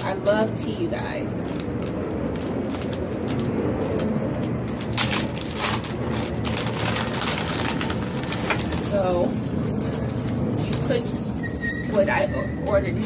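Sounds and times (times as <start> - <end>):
packaging rustling: 0.0 - 13.0
steady low hum: 0.0 - 13.0.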